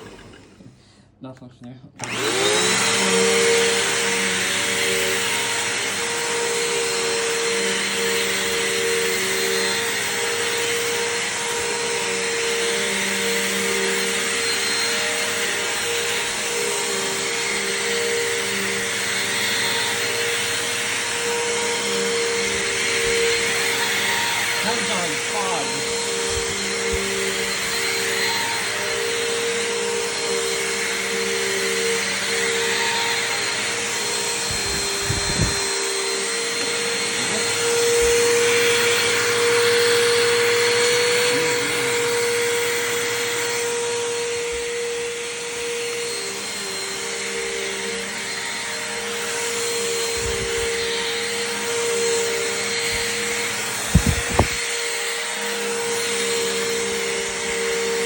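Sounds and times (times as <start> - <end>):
vacuum cleaner running: 0.0 - 1.0, 2.0 - 58.0.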